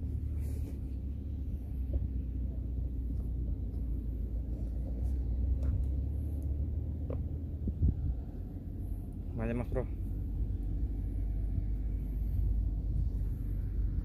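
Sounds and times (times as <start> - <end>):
wind buffeting microphone: 1.3 - 9.0, 10.0 - 14.0.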